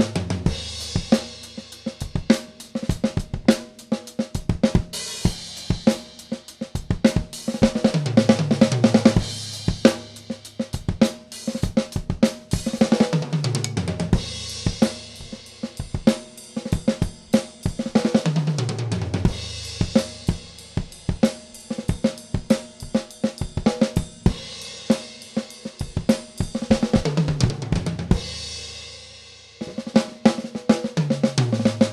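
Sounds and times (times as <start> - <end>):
drum kit groove: 0.0 - 31.9.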